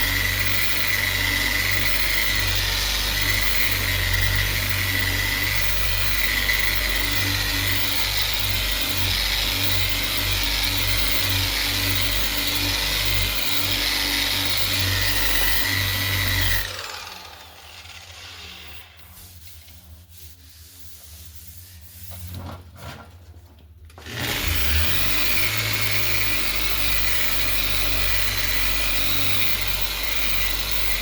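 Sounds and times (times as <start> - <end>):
electric sander whining: 0.0 - 19.1, 24.0 - 31.0.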